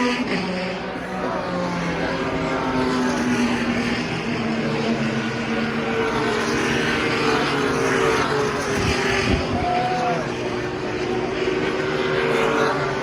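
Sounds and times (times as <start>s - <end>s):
race car engines droning: 0.0s - 13.0s
race car passing by: 0.0s - 13.0s.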